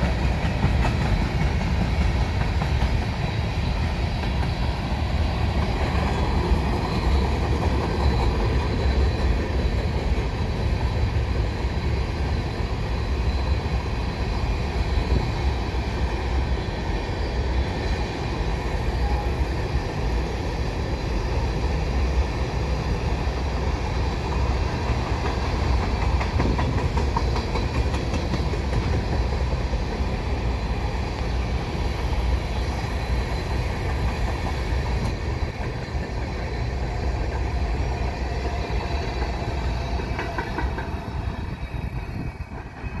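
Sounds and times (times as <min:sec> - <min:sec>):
train wheels on track: 0:00.0 - 0:43.0.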